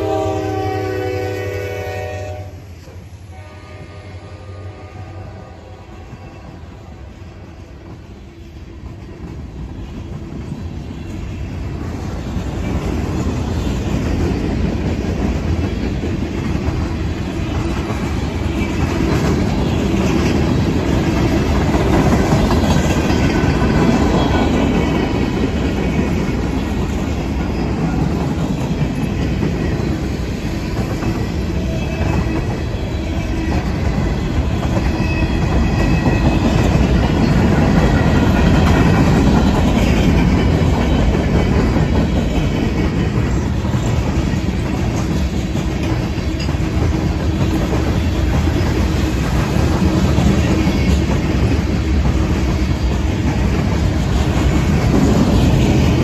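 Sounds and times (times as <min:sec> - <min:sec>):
freight train rumbling past: 0:00.0 - 0:56.0
wheels clacking over rail joints: 0:07.6 - 0:56.0.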